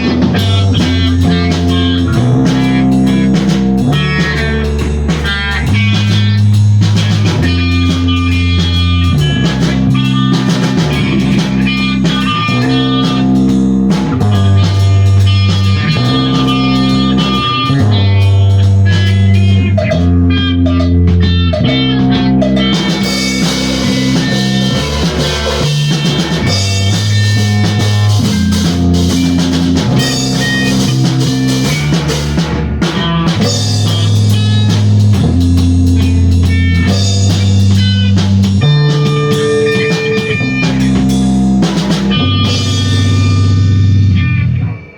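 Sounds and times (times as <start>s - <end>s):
bass guitar notes: 0.0s - 44.9s
guitar lines: 0.0s - 44.9s
steady drumming: 0.0s - 44.9s.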